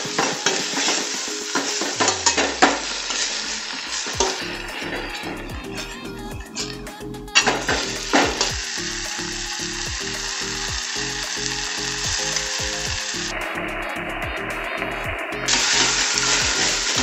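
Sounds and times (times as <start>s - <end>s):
tomato and onion sizzling in pot: 0.0s - 6.8s, 7.4s - 17.0s
background music with steady beat: 0.0s - 17.0s.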